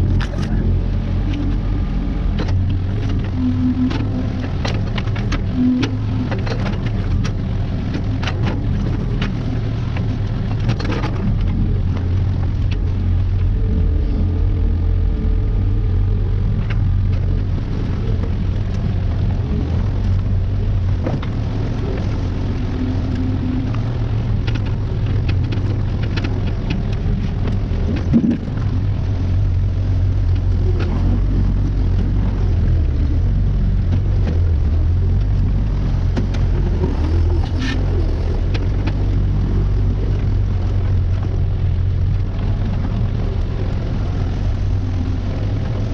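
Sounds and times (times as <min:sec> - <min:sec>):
construction machine engine running: 0:00.0 - 0:45.9.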